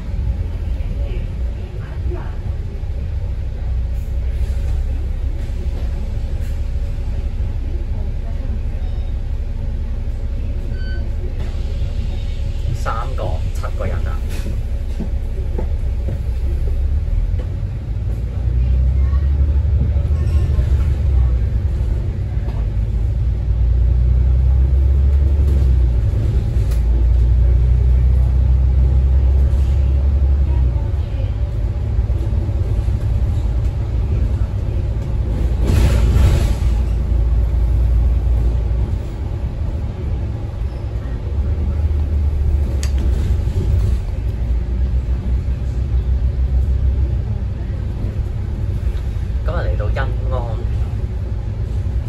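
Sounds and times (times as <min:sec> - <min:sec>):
bus engine rumbling: 0:00.0 - 0:52.0.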